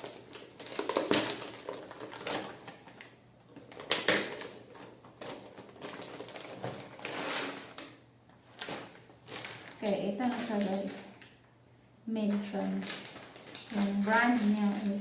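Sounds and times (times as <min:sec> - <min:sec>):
packaging tearing and rustling: 0:00.0 - 0:08.0, 0:08.6 - 0:11.3, 0:12.3 - 0:15.0.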